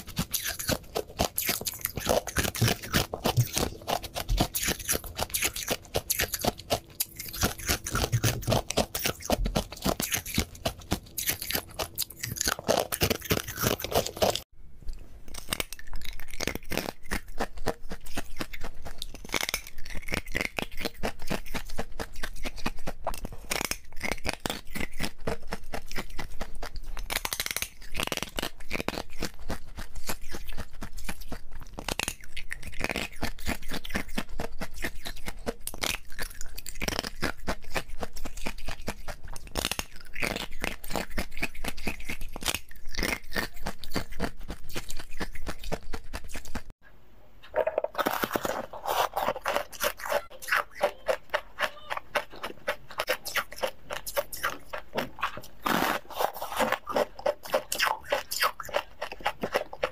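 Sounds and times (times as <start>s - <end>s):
crunching and chewing ice: 0.0s - 14.5s, 15.2s - 46.8s, 47.8s - 59.9s.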